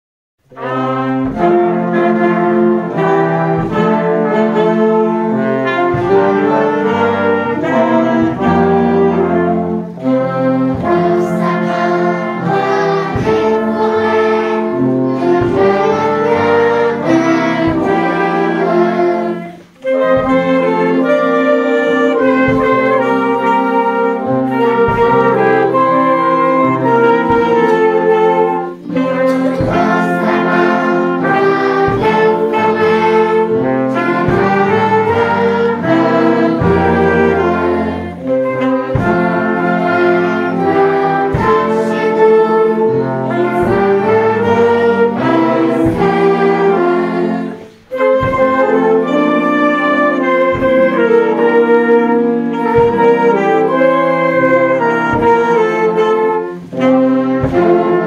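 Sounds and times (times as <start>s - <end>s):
wind band playing christmas songs: 0.4s - 58.0s.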